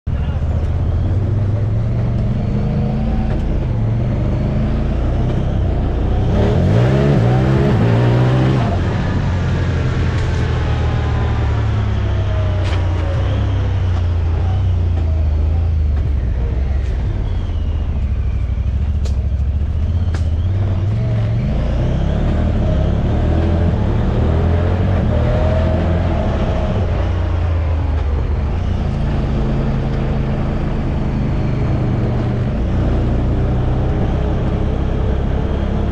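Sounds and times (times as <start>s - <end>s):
engine revving: 0.1s - 35.9s.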